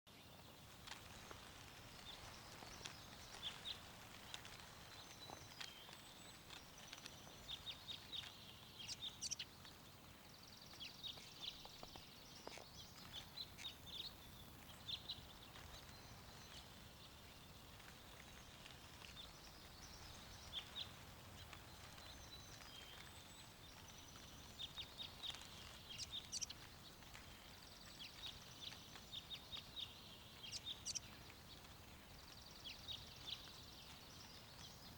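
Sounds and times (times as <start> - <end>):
small birds chirping: 0.1 - 34.9
soft wind: 0.1 - 34.9.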